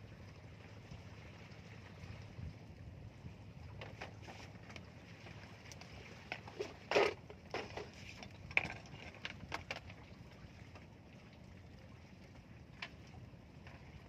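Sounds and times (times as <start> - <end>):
low rumble of wind: 0.0 - 14.0.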